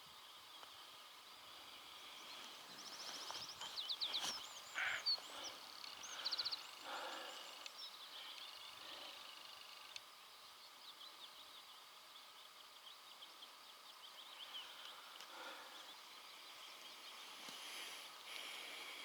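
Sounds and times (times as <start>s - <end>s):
wild birds singing: 0.0s - 19.0s.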